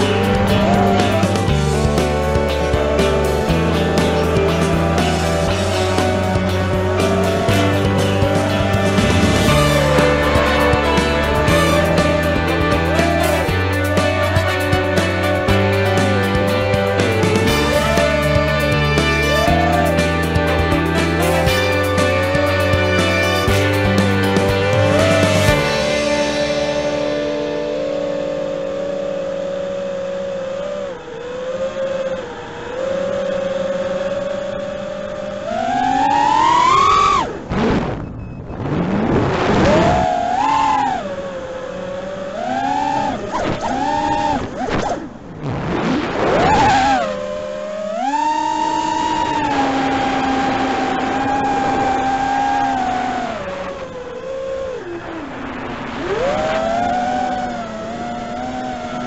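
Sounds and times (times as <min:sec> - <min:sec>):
quadcopter motors whining: 0:00.0 - 0:45.4, 0:46.0 - 0:59.0.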